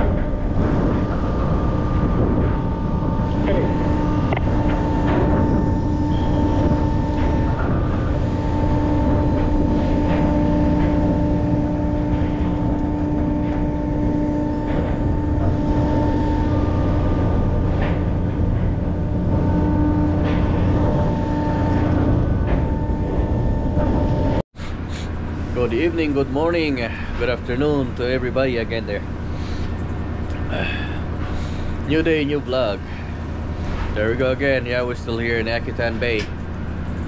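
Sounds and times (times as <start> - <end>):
boat engine drone: 0.0 - 37.0.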